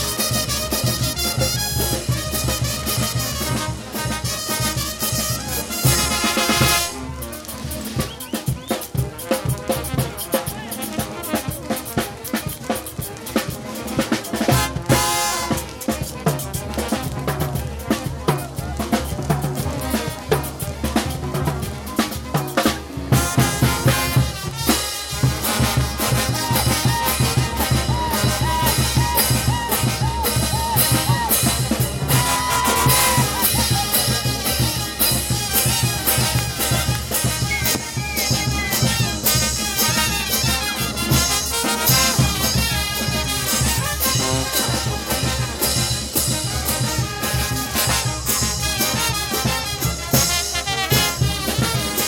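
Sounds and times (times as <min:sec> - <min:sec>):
brass band playing dance music: 0:00.0 - 0:52.0.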